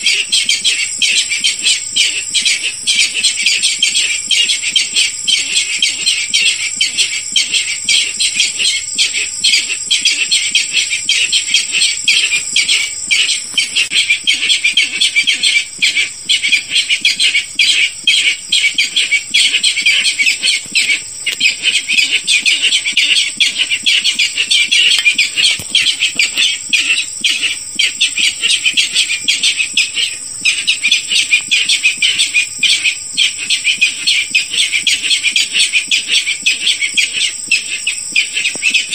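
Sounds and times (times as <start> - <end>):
rapid harsh bird calls: 0.0 - 38.9.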